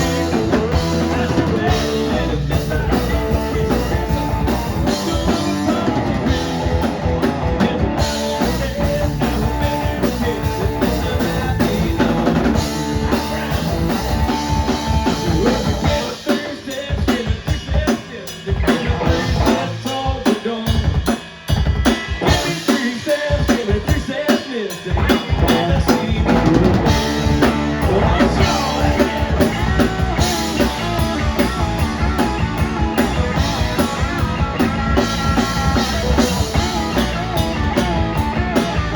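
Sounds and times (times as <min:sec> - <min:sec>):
drum kit: 0:00.0 - 0:38.9
rock band playing live: 0:00.0 - 0:38.9.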